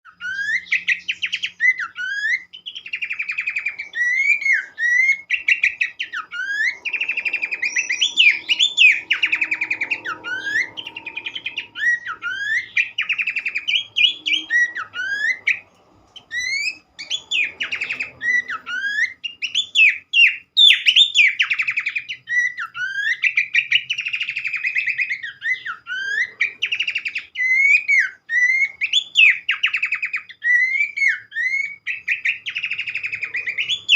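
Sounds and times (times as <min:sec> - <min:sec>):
bird chattering and whistling song: 0:00.1 - 0:33.9.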